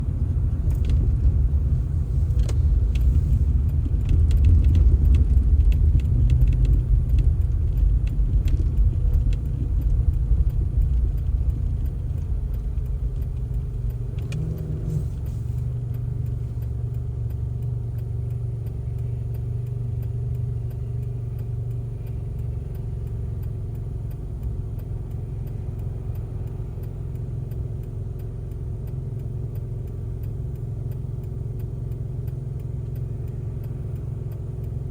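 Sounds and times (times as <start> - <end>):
engine rumbling: 0.0 - 34.9
light rattling clicks: 0.1 - 34.9.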